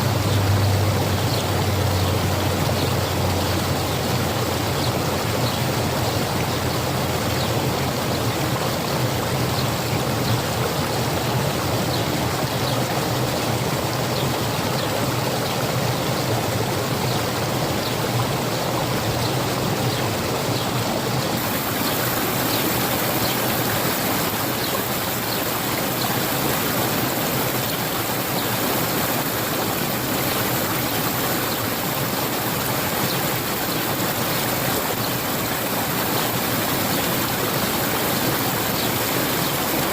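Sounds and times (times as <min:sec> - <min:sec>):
spring water flowing: 0:00.0 - 0:39.9.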